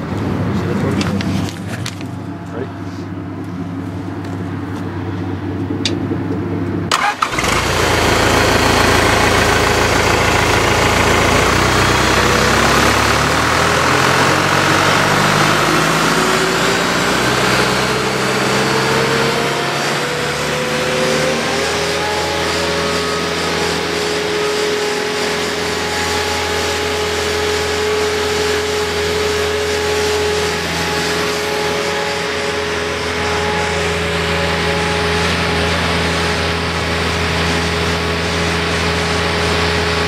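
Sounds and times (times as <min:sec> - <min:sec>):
diesel engine starting and running: 0:00.0 - 0:40.0.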